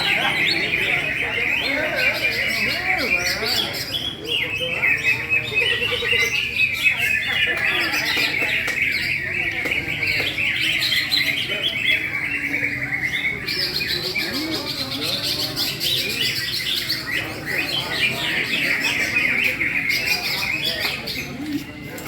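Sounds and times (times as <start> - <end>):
bird chirping and trilling: 0.0 - 21.9.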